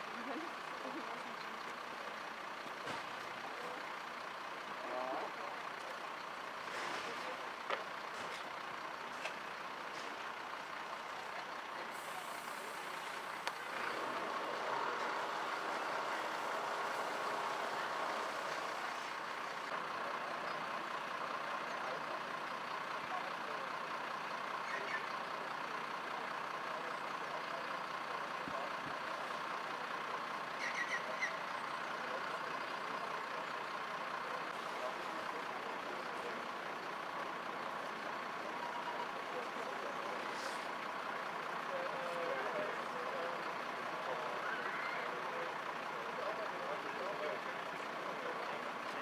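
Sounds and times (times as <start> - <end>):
fire engine running: 0.0 - 49.0.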